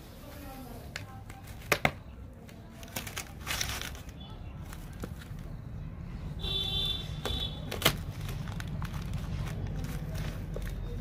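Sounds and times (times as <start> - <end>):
handling noises: 0.2 - 5.8, 6.9 - 11.0.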